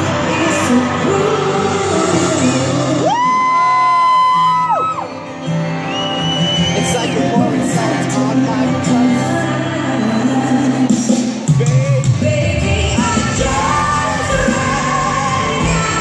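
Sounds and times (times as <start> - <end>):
woman singing: 0.0 - 4.0, 6.8 - 16.0.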